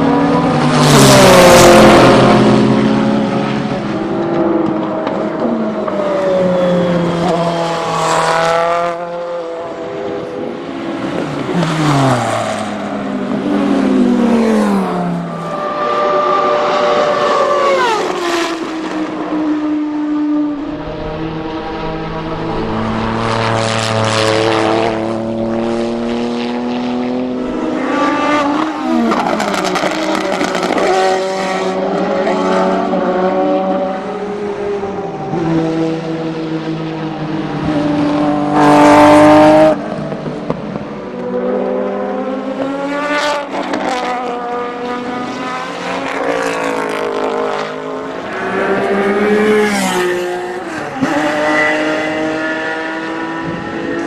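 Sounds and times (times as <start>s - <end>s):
racing cars passing at speed: 0.0s - 54.0s.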